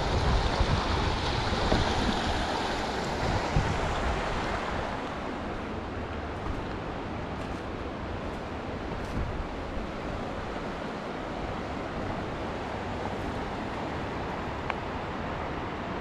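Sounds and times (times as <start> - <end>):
rushing wind: 0.0 - 16.0.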